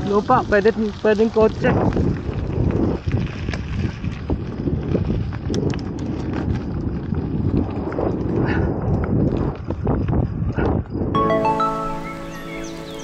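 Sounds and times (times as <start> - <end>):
bicycle rattling on dirt road: 0.0 - 11.1
wind on microphone: 0.0 - 11.2.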